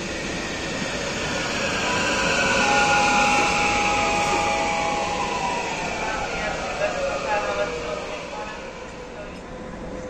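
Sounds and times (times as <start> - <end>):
train wheels rumbling: 0.0 - 10.0
train whine: 0.0 - 10.0.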